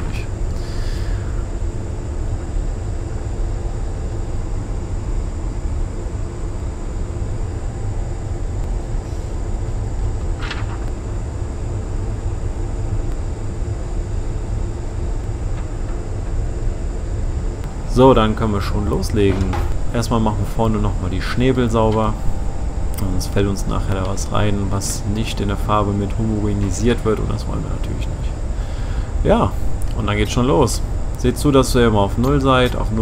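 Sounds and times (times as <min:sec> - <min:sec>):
thin high whine: 0:00.0 - 0:33.0
ventilation rumble and hiss: 0:00.0 - 0:33.0.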